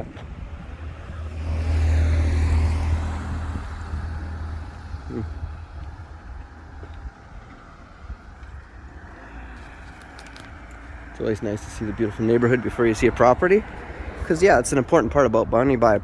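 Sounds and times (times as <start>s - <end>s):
car passing by: 0.1s - 14.9s.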